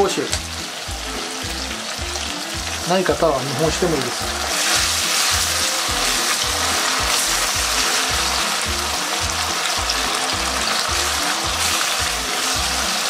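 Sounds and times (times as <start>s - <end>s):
background music with low beat: 0.0s - 13.0s
chicken skin sizzling in wok: 0.0s - 13.0s.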